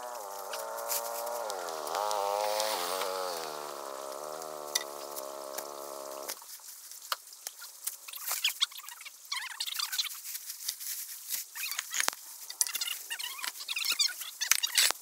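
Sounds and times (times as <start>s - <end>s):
dry leaves crunching and crackling: 0.0s - 8.7s, 9.4s - 14.8s.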